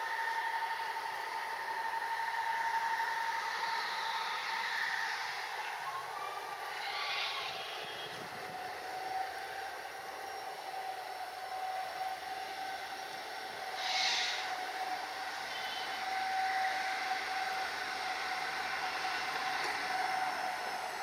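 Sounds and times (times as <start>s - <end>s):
diesel train running with whine: 0.0s - 21.0s.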